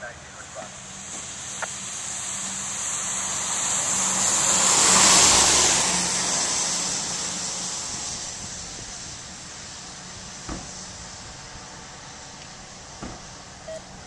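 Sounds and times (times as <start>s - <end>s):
car passing on wet road: 0.3s - 14.0s.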